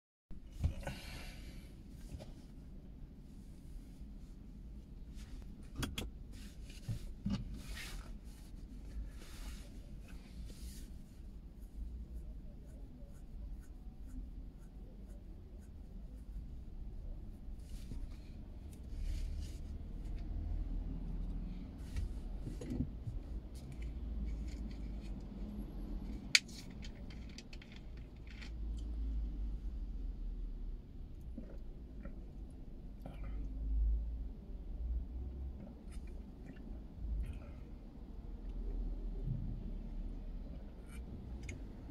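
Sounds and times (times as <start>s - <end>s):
low street rumble: 0.4s - 41.9s.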